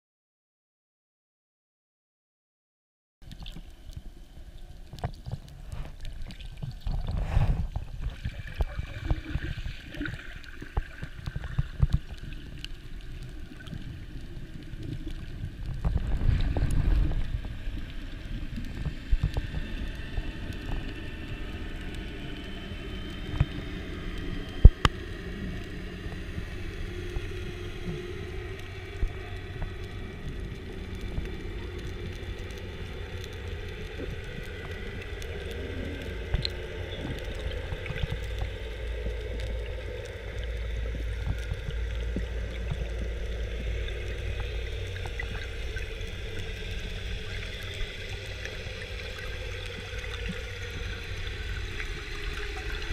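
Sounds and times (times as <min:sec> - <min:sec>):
muffled underwater water rumble: 0:03.2 - 0:52.9.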